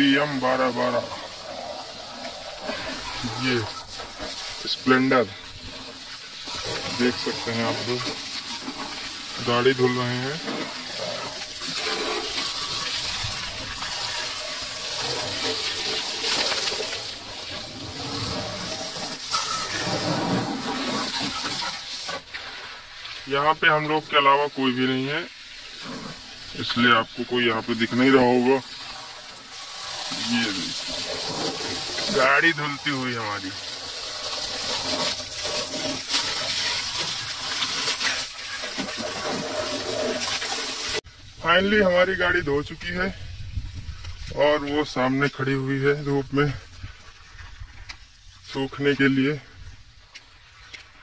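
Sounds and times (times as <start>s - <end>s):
hose water spraying and splashing: 0.0s - 51.0s.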